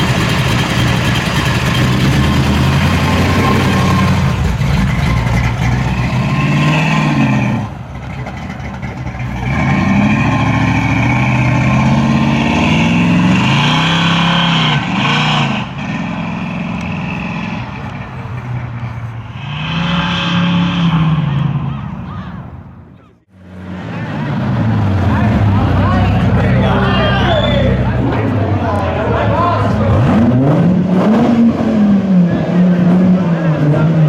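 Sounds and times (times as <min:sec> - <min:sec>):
car engine revving: 0:00.0 - 0:22.7, 0:23.4 - 0:34.0.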